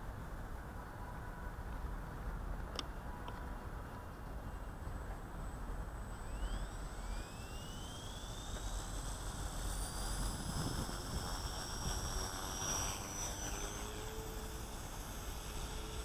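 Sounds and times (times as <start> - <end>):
electric helicopter motor whine: 2.3 - 16.0.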